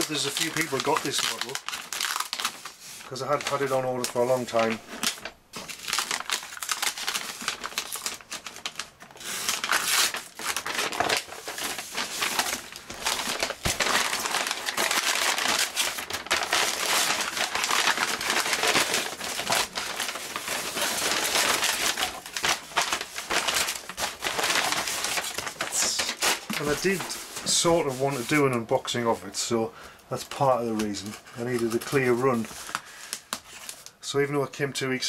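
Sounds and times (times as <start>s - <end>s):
packaging crinkling and crumpling: 0.0s - 29.0s, 30.2s - 34.0s.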